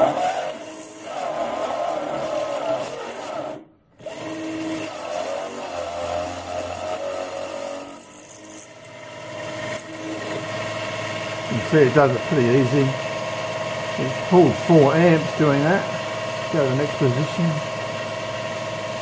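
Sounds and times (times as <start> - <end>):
electric drill motor cutting steel: 0.0 - 19.0.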